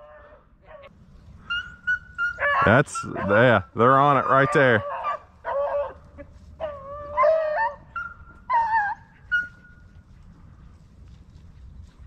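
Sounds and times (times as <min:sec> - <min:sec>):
dogs baying: 0:00.0 - 0:09.9.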